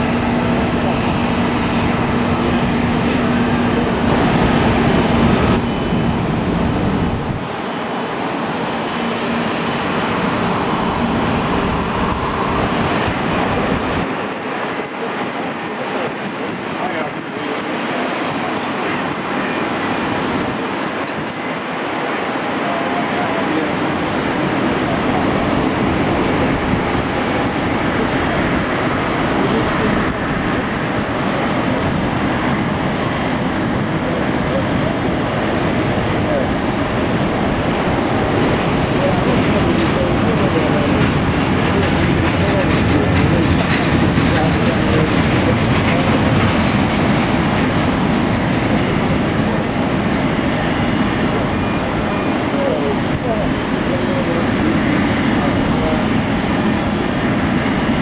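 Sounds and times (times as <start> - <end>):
jet airliner engines running: 0.0 - 58.0.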